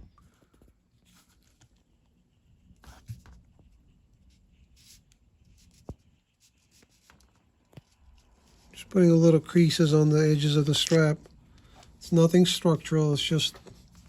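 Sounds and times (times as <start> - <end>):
rubbing and handling leather: 0.1 - 14.0.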